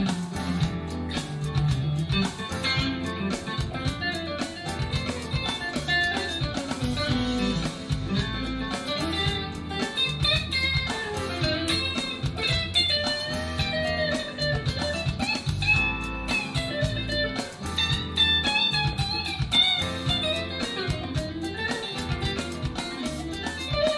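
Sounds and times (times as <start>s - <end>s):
clean electric guitar: 0.0s - 23.9s.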